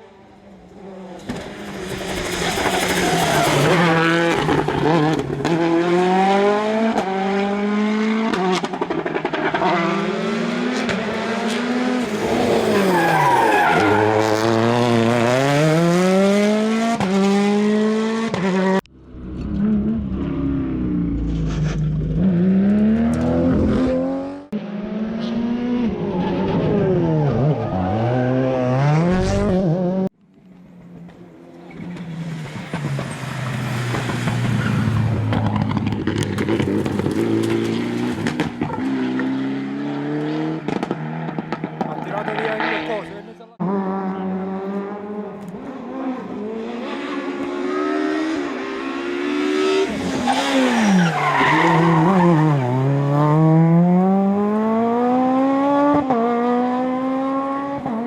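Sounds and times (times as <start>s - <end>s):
rally car engines revving: 0.0s - 30.1s, 30.7s - 58.0s.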